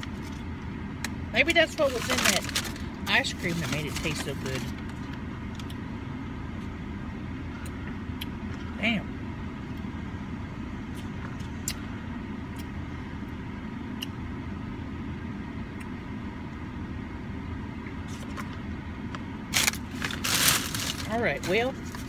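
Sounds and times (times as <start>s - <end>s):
car idling inside cabin: 0.0s - 22.0s.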